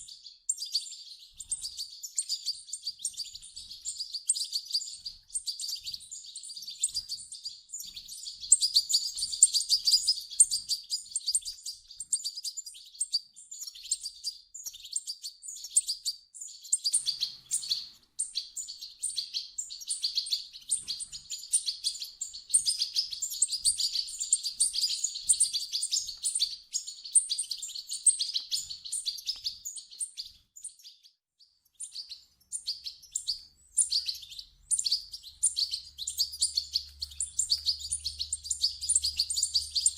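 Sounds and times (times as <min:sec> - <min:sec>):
bird chicks twittering: 0:00.0 - 0:39.9.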